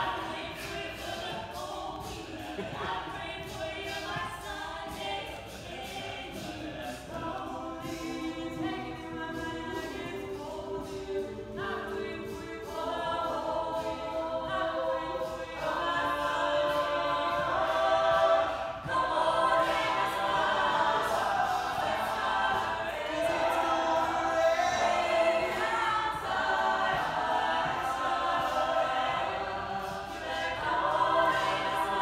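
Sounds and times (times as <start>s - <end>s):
a cappella group singing: 0.0s - 32.0s.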